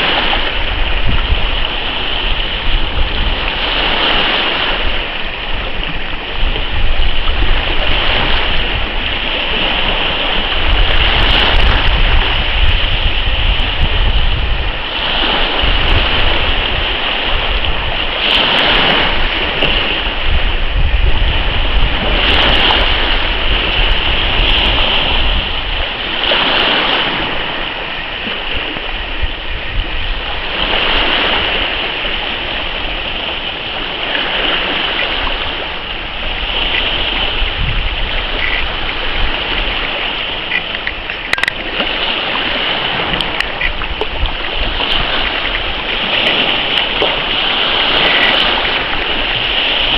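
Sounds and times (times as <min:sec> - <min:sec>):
sea water sloshing and lapping: 0:00.0 - 0:49.9
wind rumble on microphone: 0:00.0 - 0:49.9.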